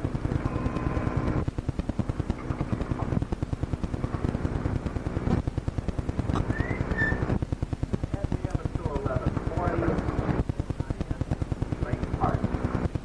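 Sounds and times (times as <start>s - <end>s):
rapid mechanical clicking: 0.0s - 13.0s
steady tone: 0.0s - 13.0s.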